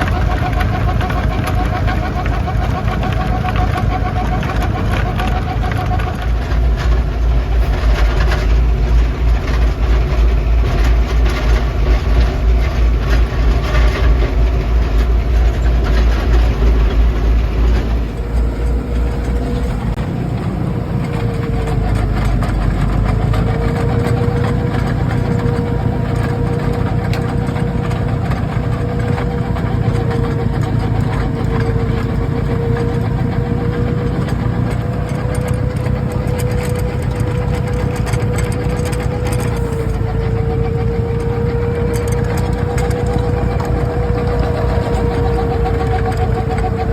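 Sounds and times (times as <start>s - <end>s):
thin whine: 0.0s - 46.9s
tractor diesel engine under load: 0.0s - 46.9s.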